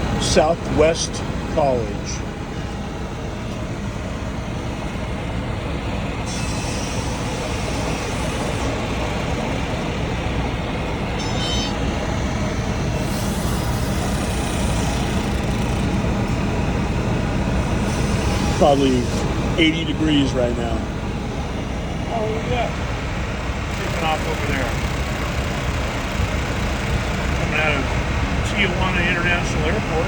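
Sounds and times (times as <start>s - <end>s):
heavy engine rumbling: 0.0s - 30.0s.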